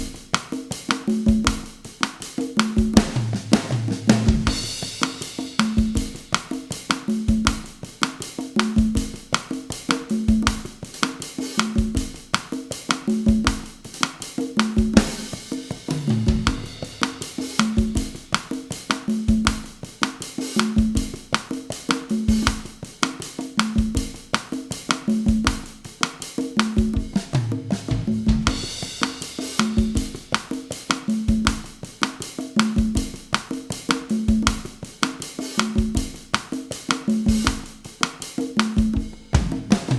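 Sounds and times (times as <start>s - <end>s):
conga strokes: 0.0s - 39.9s
drum kit playing: 0.0s - 39.9s.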